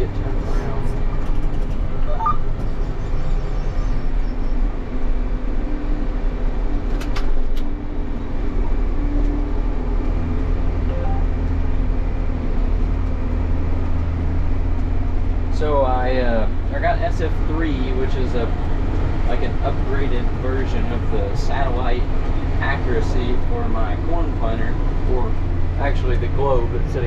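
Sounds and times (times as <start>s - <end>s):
tractor diesel engine droning: 0.0s - 6.8s, 7.7s - 27.0s.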